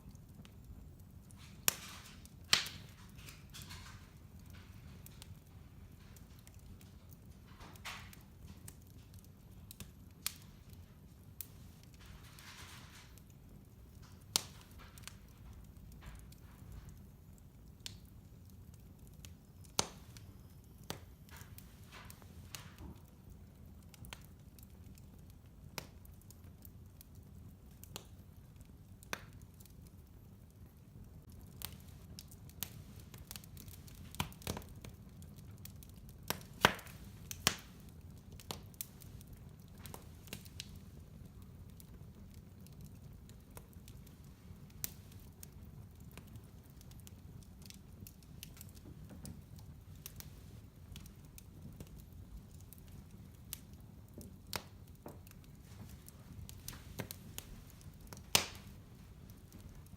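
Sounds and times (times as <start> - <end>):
fire crackling and popping: 0.0 - 59.9
low steady fire rumble: 0.0 - 59.9.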